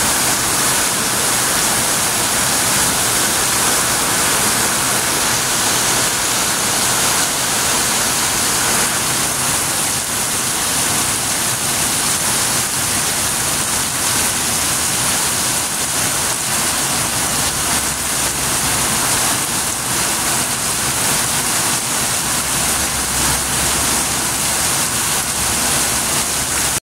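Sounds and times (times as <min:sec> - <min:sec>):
heavy rain hiss: 0:00.0 - 0:26.8.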